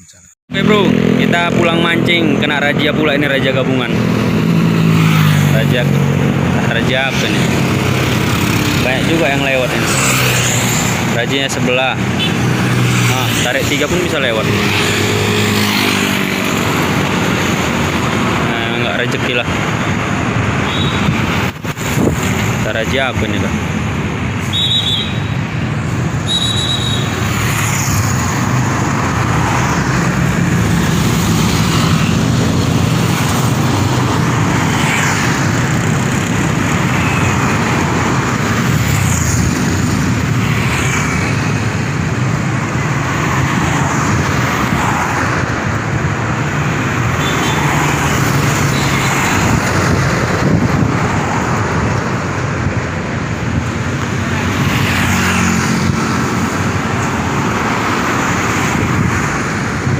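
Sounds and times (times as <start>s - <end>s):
vehicles passing by: 0.0s - 59.9s.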